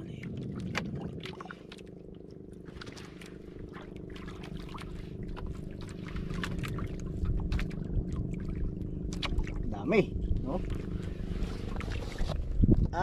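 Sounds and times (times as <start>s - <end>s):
small boat engine running: 0.0s - 13.0s.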